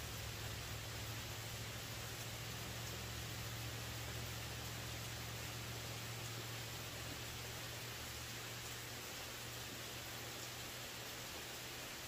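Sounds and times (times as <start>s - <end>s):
low steady hum: 0.0s - 12.0s
rain hiss: 0.0s - 12.0s.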